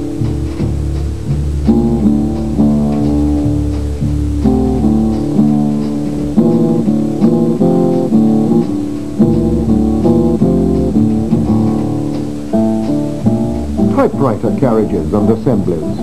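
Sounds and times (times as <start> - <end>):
background music chords over bass: 0.0 - 16.0.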